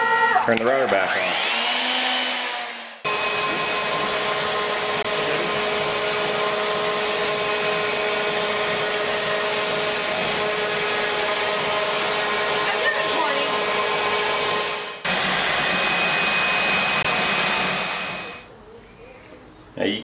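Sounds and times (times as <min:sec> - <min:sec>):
router motor whine: 0:01.0 - 0:18.4.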